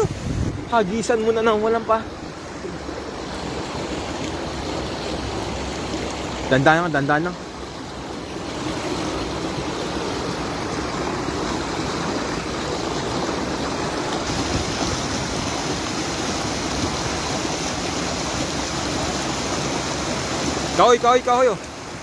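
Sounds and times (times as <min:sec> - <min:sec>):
water rushing over weir: 0:00.0 - 0:22.0.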